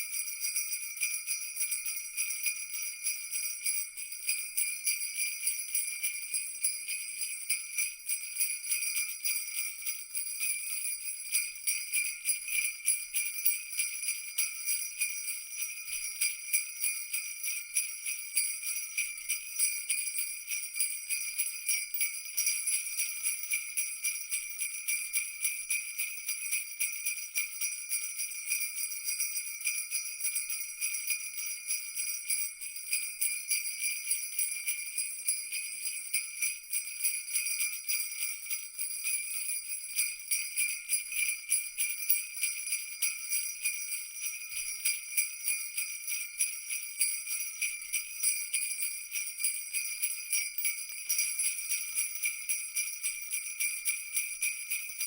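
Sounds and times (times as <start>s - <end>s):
jingle bells shaking: 0.0s - 55.0s.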